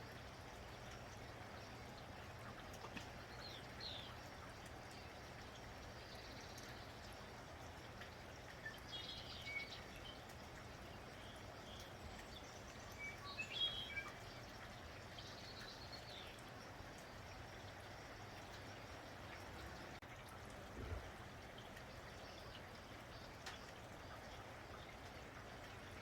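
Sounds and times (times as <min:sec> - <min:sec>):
steady rain hiss: 0:00.0 - 0:26.0
small birds chirping: 0:00.8 - 0:20.0, 0:21.6 - 0:26.0.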